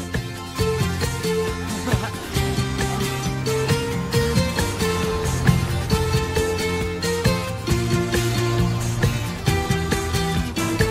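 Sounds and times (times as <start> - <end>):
upbeat orchestral music: 0.7 - 10.9.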